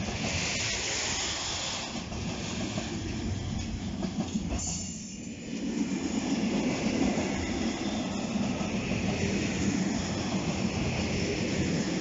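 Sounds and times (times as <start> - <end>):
deep rumble of train wheels: 0.0 - 12.0.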